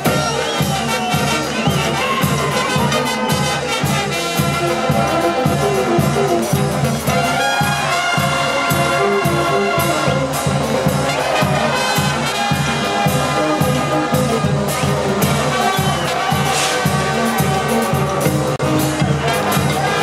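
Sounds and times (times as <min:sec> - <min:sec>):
brass band playing: 0:00.0 - 0:20.0.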